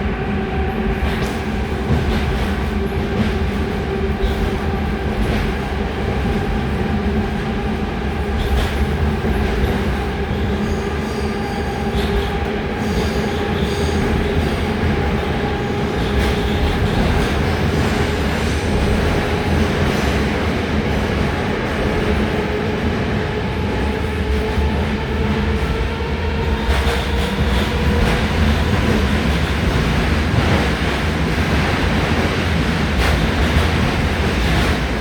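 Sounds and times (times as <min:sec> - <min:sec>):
wheels rumbling on rail: 0:00.0 - 0:35.0.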